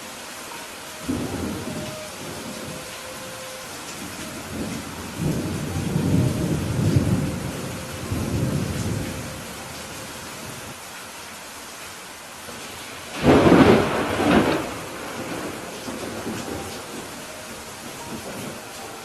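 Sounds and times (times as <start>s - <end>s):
steady rain: 0.0s - 19.0s
thunder rumbling: 0.5s - 10.8s, 13.1s - 19.0s.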